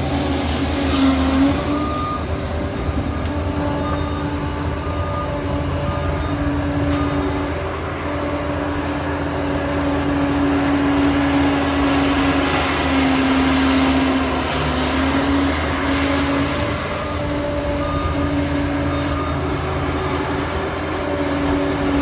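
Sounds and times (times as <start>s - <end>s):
diesel engine under load: 0.0s - 22.0s.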